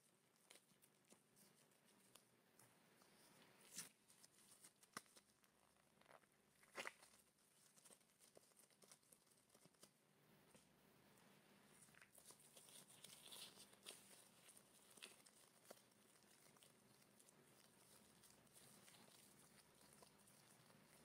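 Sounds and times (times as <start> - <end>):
disposable gloves crinkling: 0.0 - 10.0, 11.7 - 21.0
dough being handled: 0.0 - 21.0.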